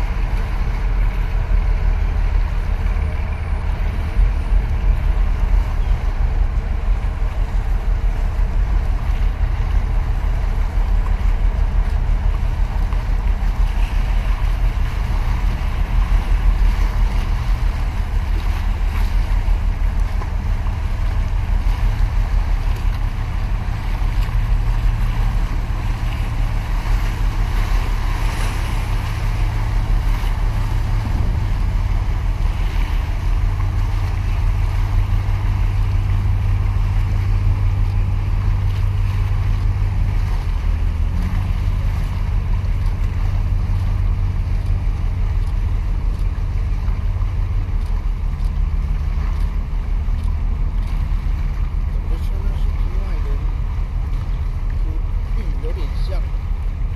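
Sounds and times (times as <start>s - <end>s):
sea water splashing on concrete: 0.0s - 56.9s
wind rumbling on microphone: 0.0s - 56.9s.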